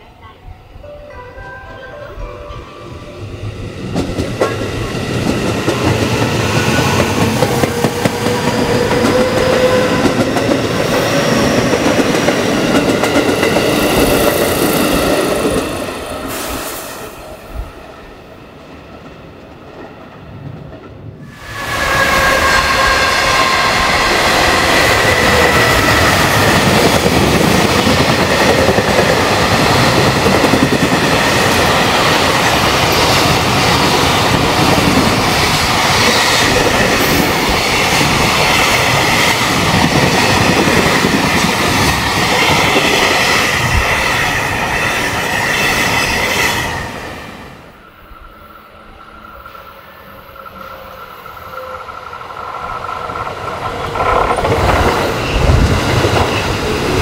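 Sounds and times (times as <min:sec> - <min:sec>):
train whine: 0:00.0 - 0:57.0.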